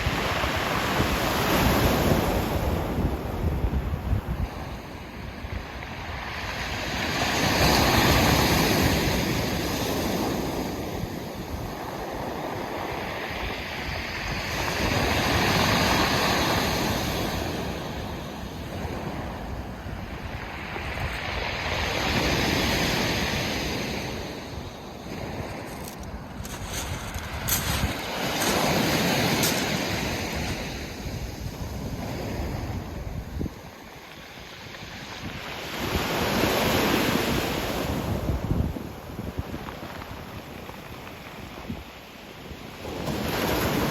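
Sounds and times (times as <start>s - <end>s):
waves breaking on pebble beach: 0.0s - 43.9s
wind rumble on microphone: 0.0s - 43.9s.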